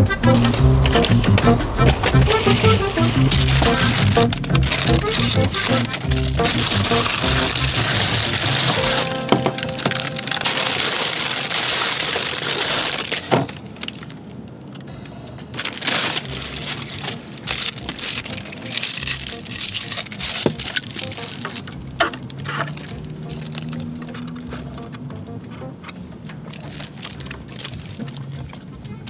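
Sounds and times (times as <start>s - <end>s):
packaging and straw clicks: 0.2s - 14.9s, 15.5s - 28.7s
plastic bags crinkling: 2.0s - 14.7s, 15.5s - 24.7s, 26.5s - 28.6s.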